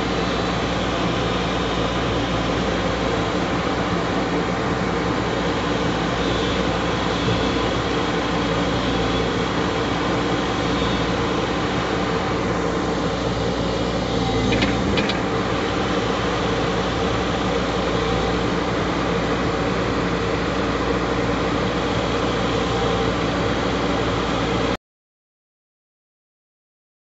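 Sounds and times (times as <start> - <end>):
excavator diesel engine running: 0.0 - 24.8.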